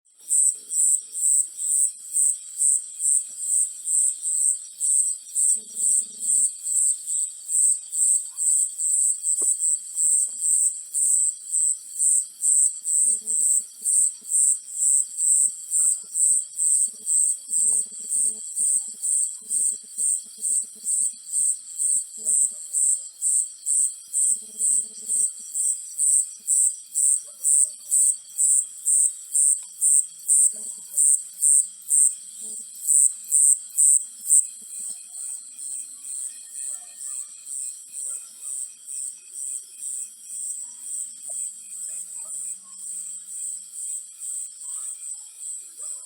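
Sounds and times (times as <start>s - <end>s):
cricket chirping: 0.1s - 46.0s
faint insect trills: 0.2s - 46.0s.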